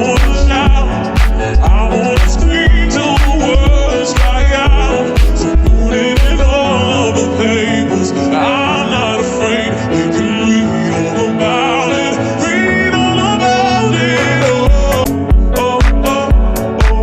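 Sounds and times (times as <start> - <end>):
pop music with singing: 0.0 - 17.0.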